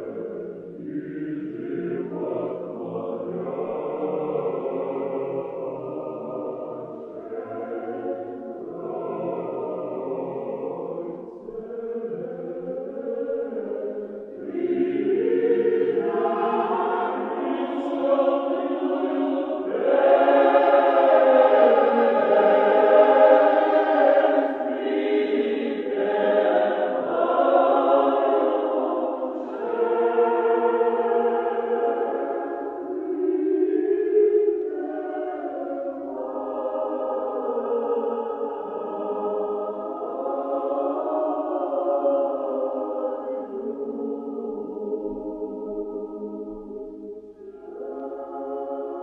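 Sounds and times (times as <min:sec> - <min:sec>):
choir chanting: 0:00.0 - 0:49.0.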